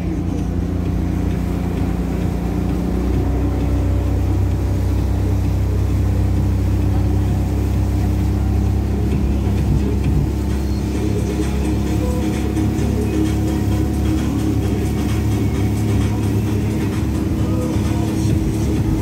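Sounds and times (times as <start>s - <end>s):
speedboat engine droning: 0.0s - 19.0s
water rushing past hull: 0.0s - 19.0s.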